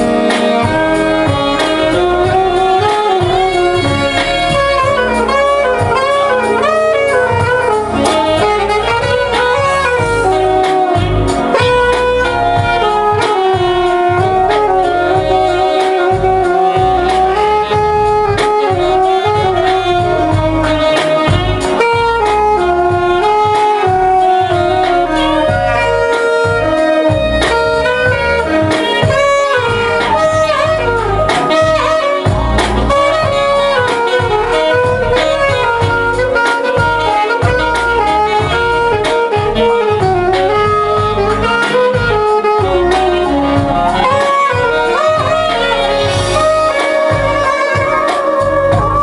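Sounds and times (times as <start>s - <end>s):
alto saxophone jazz melody: 0.0s - 49.0s
bass and drum backing track: 0.0s - 49.0s.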